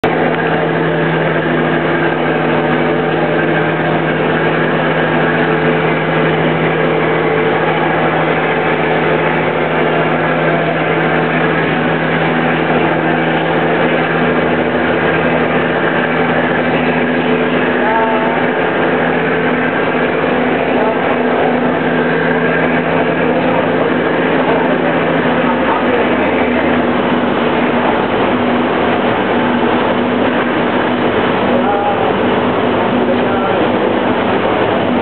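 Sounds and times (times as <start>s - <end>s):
boat diesel engine droning: 0.0s - 35.0s.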